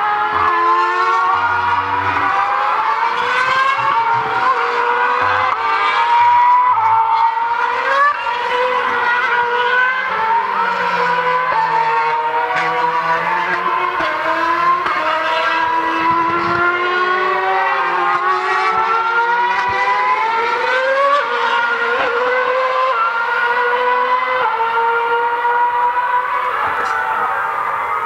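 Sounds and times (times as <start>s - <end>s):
racing car engines at high revs: 0.0s - 28.0s.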